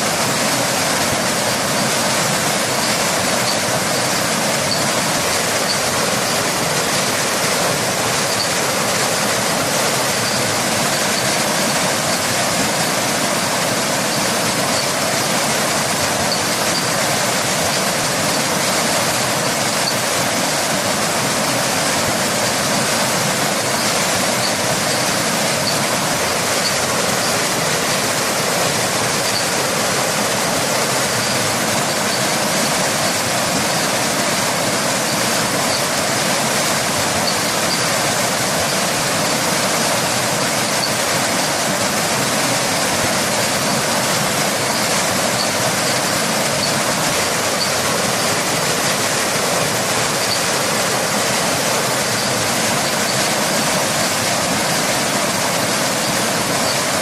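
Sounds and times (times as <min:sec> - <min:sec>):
rain: 0:00.0 - 0:57.0
waterfall rushing: 0:00.0 - 0:57.0.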